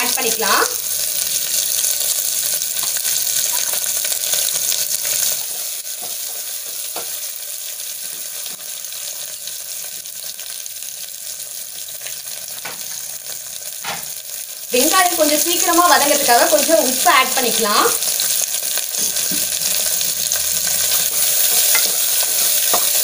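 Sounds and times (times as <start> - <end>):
onions sizzling in hot oil: 0.0 - 23.0.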